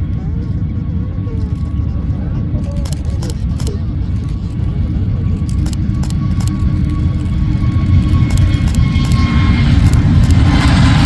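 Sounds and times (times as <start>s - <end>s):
jet engines at takeoff power: 0.0s - 11.0s.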